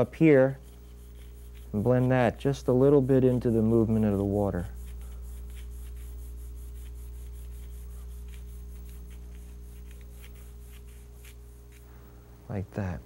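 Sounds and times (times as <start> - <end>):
low electrical hum: 0.0 - 13.0
pencil scratching on paper: 0.5 - 11.9.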